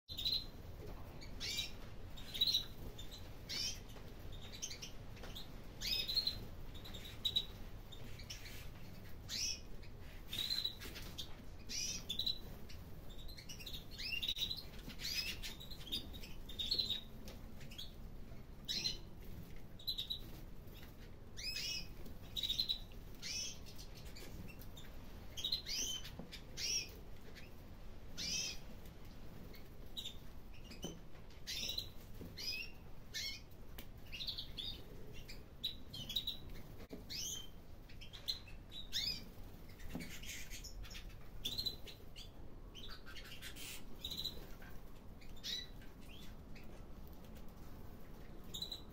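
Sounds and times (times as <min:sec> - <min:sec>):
canaries chirping: 0:00.1 - 0:48.9.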